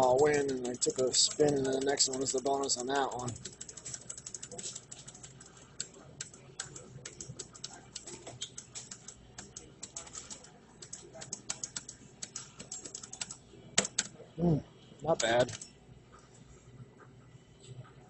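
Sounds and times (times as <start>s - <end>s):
game machine clicking effects: 0.0s - 14.1s, 15.1s - 15.7s.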